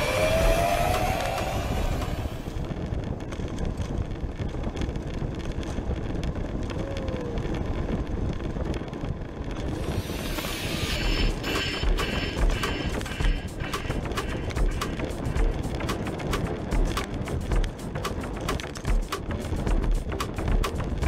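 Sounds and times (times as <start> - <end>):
bicycle clicks and rattles: 0.0 - 21.0
road rumble: 0.0 - 21.0
wind buffeting microphone: 0.0 - 21.0.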